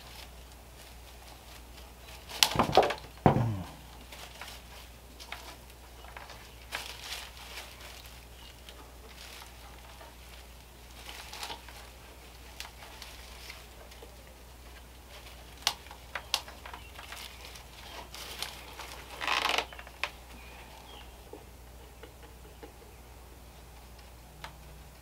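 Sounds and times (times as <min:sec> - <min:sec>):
steady low hum: 0:00.0 - 0:25.0
twine rustling and crackling: 0:00.0 - 0:25.0.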